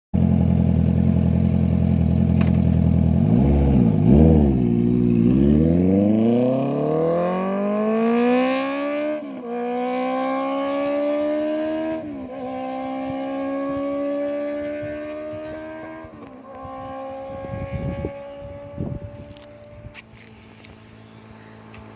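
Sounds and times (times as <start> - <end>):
motorcycle engine revving: 0.2 - 21.9.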